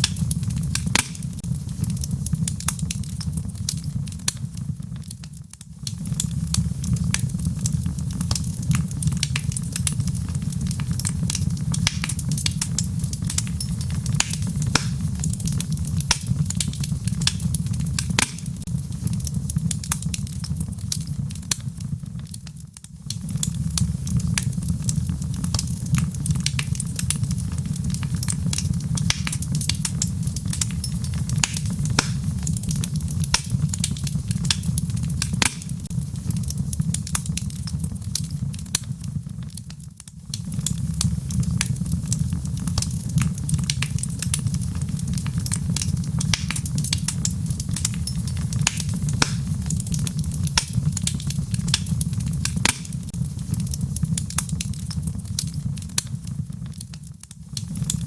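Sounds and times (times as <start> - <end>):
fire crackling and popping: 0.0 - 58.0
fire rumbling: 0.0 - 58.0.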